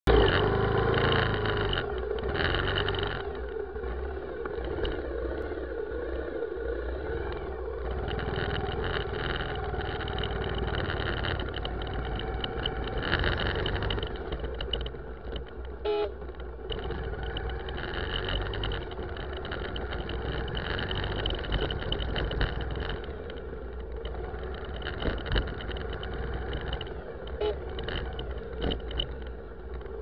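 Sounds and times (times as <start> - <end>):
traffic noise: 0.0 - 30.0
vehicle engine running: 0.0 - 30.0.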